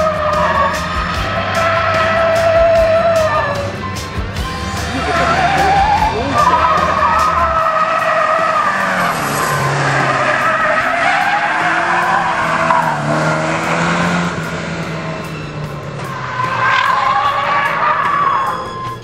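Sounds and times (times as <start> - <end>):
car engine revving: 0.0 - 19.0
tyres squealing: 0.0 - 19.0.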